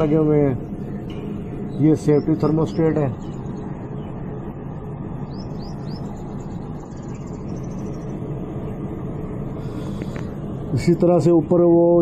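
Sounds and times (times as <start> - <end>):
faint high rising chirps: 0.0 - 10.9
machinery hum and air rush: 0.0 - 12.0.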